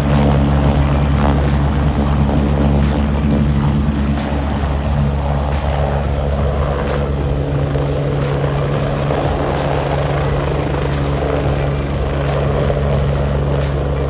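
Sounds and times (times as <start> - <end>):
helicopter rotor and engines: 0.0 - 14.0.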